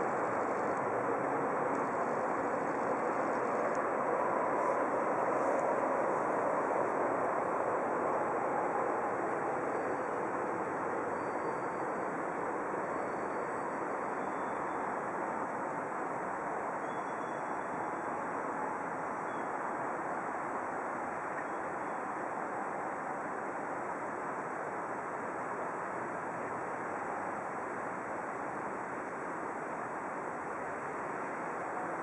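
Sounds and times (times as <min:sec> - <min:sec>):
distant traffic: 0:00.0 - 0:32.0
faint high whine: 0:00.0 - 0:32.0
wind: 0:00.0 - 0:32.0.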